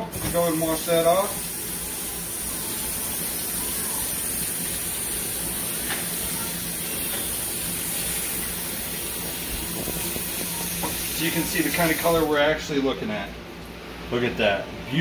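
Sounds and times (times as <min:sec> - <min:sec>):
kitchen faucet running: 0:00.0 - 0:12.3.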